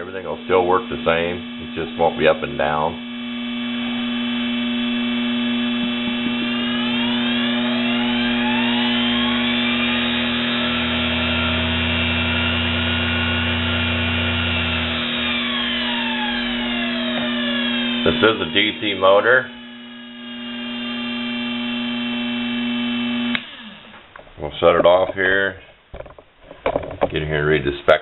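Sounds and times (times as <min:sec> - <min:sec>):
motor whine: 0:00.0 - 0:24.8
electrical hum: 0:00.0 - 0:28.0.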